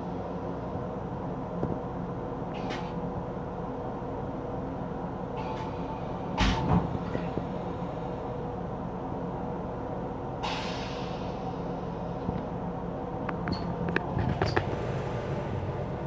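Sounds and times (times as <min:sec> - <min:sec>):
railcar hum and rumble: 0:00.0 - 0:16.0.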